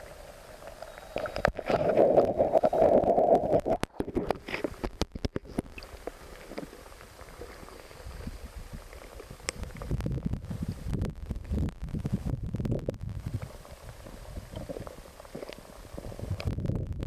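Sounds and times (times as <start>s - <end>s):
muffled underwater river rush: 0.0s - 17.0s.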